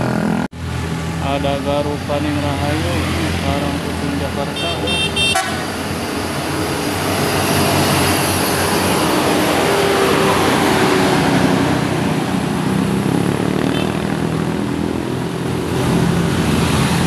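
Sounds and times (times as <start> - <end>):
bus diesel engine labouring: 0.0 - 14.6.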